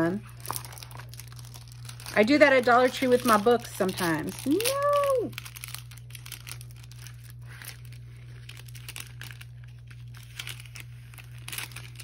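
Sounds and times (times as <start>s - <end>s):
plastic film crinkling: 0.0s - 12.0s
steady low hum: 0.0s - 12.0s.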